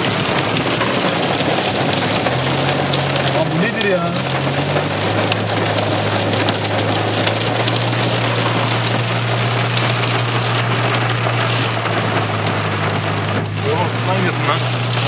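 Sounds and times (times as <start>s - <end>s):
car engine humming: 0.0s - 15.0s
heavy rain on car roof: 0.0s - 15.0s.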